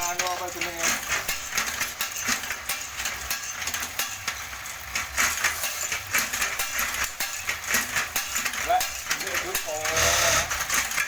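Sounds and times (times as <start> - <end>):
machine clicking and knocking: 0.0 - 11.0
mechanical hum: 0.0 - 11.0.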